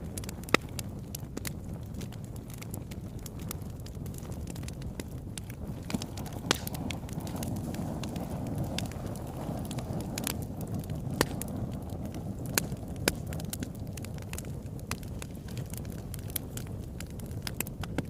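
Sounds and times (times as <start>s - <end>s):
wood fire crackling in fireplace: 0.0s - 18.0s.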